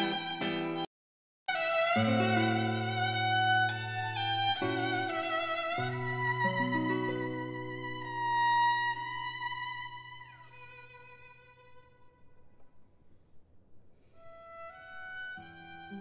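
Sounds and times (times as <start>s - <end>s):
slow violin music: 0.0s - 0.9s, 1.5s - 12.4s, 14.2s - 16.0s.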